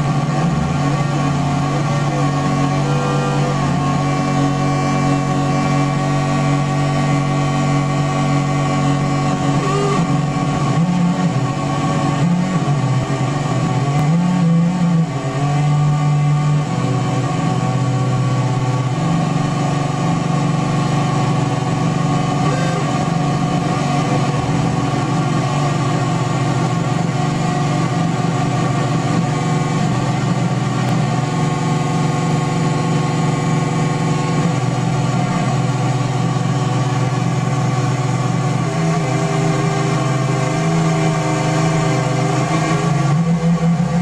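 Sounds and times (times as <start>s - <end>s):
buzzy synth drone: 0.0s - 44.0s.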